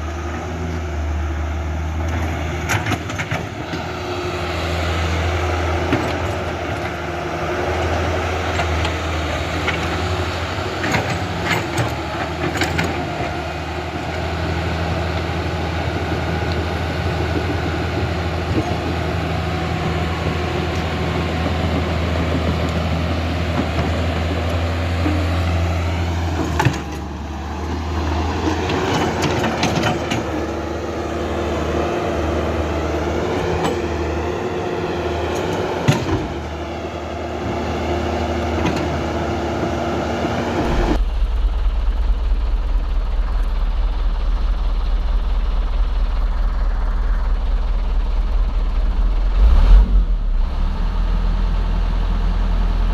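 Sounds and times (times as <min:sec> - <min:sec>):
construction machinery drone: 0:00.0 - 0:52.9.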